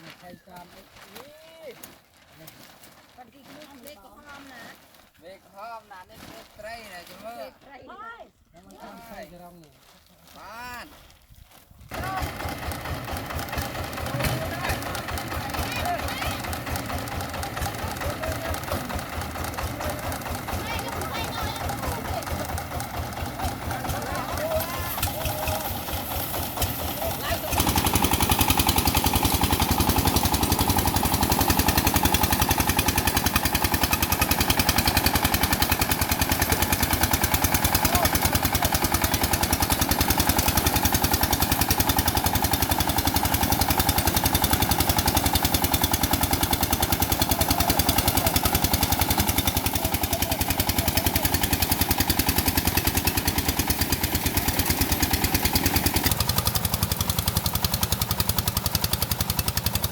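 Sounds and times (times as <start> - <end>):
small engine running: 11.8 - 59.9.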